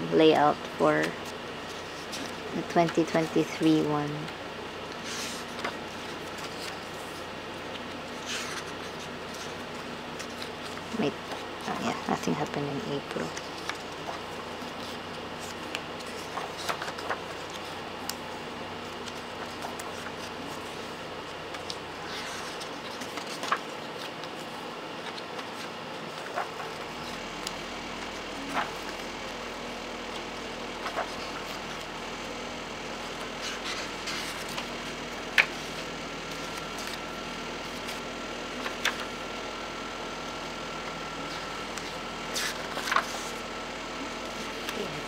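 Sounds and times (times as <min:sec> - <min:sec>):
steady background hum: 0:00.0 - 0:45.0
diary pages turning: 0:00.6 - 0:31.9, 0:33.0 - 0:38.0, 0:38.6 - 0:39.2, 0:41.3 - 0:43.4.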